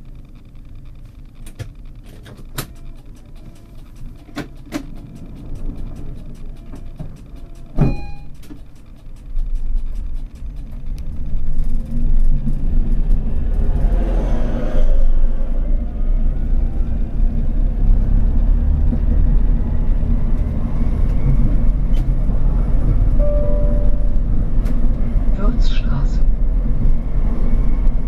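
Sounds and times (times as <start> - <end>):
tram low rumble: 0.0 - 28.0.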